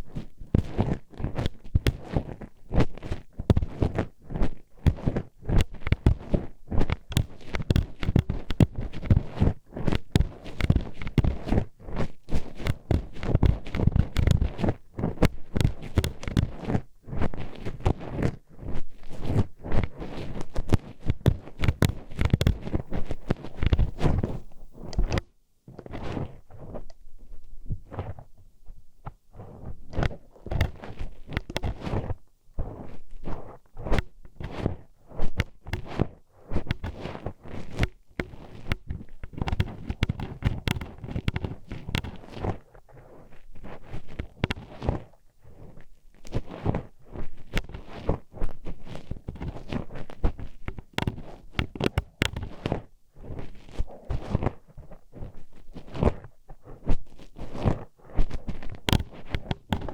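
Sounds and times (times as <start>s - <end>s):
hairpin scraping in ear: 0.0s - 27.0s, 29.4s - 54.6s, 57.1s - 59.9s.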